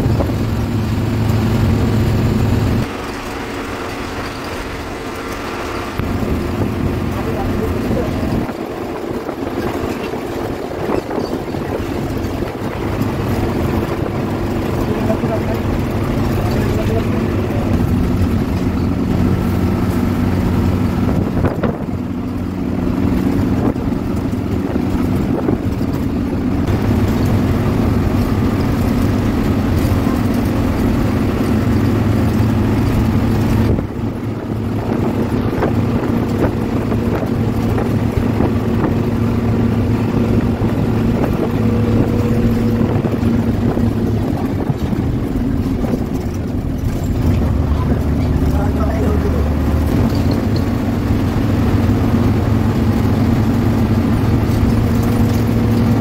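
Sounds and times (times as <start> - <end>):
coach engine running: 0.0 - 56.0
road noise: 0.0 - 56.0.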